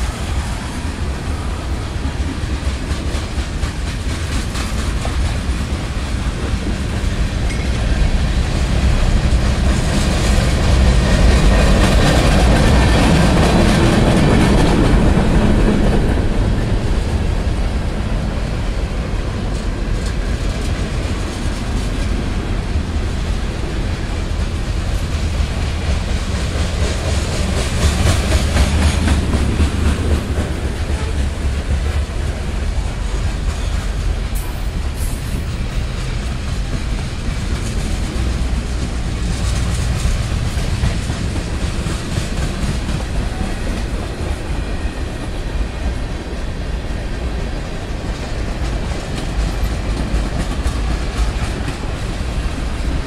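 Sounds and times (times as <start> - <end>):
clickety-clack of rails: 0.0 - 53.0
train wheels rumbling on rails: 0.0 - 53.0.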